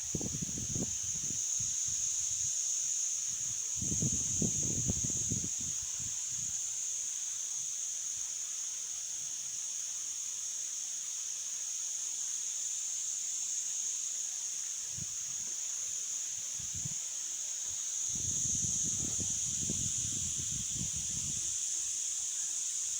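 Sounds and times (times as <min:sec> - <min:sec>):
insects chorus: 0:00.0 - 0:22.9.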